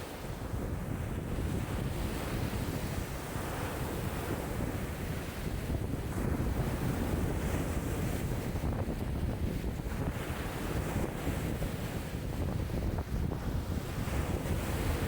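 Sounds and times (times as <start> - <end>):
lake waves washing and breaking: 0.0 - 15.0
wind buffeting the microphone: 0.0 - 15.0.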